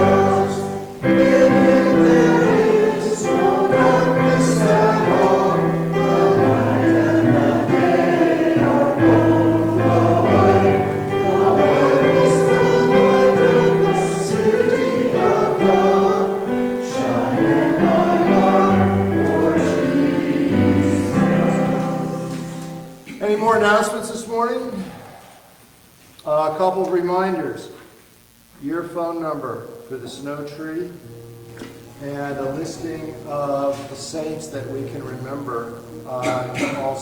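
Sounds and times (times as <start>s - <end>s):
piano accompaniment: 0.0s - 23.1s, 29.6s - 37.0s
congregation singing a hymn: 0.0s - 23.8s, 29.5s - 37.0s.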